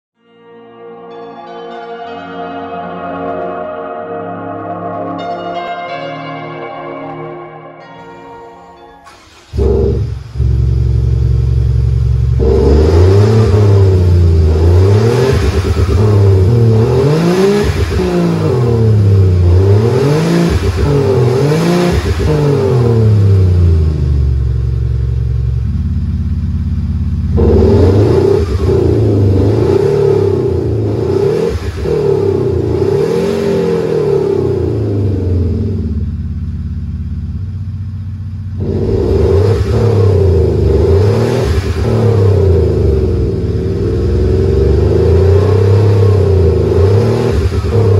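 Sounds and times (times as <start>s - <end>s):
car exhaust revving: 9.0s - 47.9s.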